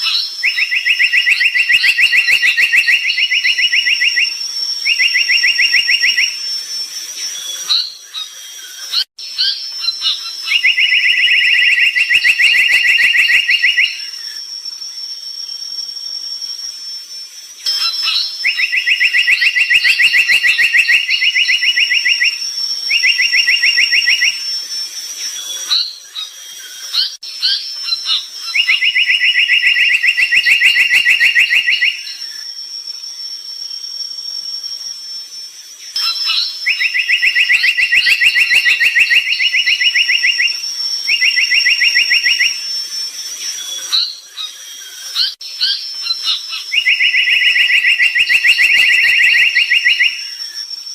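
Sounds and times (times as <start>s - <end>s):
bird singing buzzing trills: 0.0s - 50.9s.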